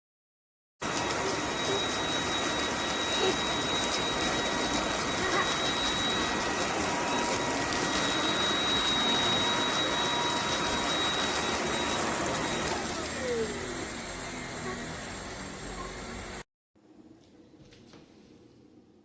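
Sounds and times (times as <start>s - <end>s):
vacuum cleaner running: 0.8s - 16.4s.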